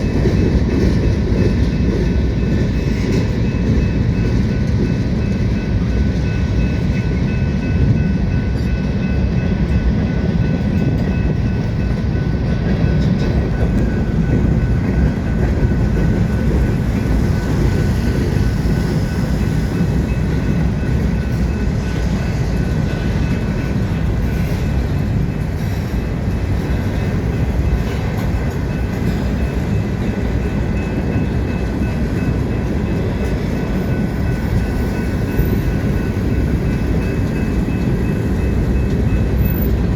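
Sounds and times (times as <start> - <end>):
freight train wheels rumbling on track: 0.0 - 39.9.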